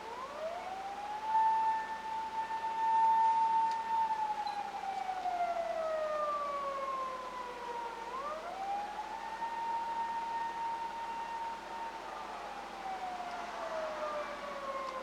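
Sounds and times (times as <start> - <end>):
police siren wailing: 0.1 - 15.0.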